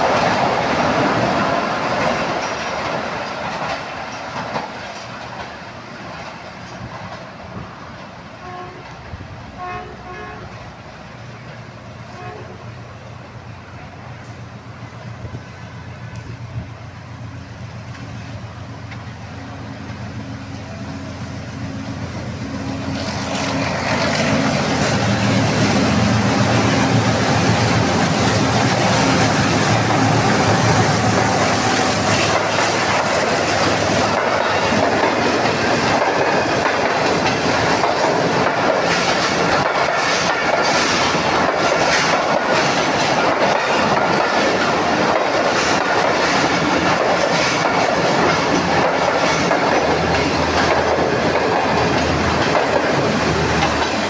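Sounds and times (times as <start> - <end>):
train wheels clattering on rails: 0.0 - 9.3, 13.7 - 20.9, 21.7 - 54.0
diesel locomotive engine drone: 0.0 - 54.0.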